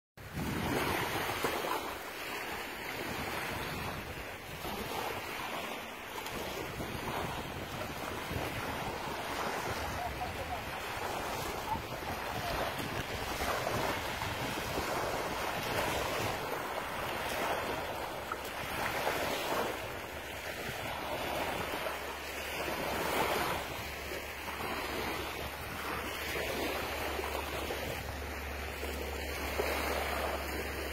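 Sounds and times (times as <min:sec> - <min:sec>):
small waves lapping on sand: 0:00.2 - 0:30.9
wind rumble on microphone: 0:00.2 - 0:30.9.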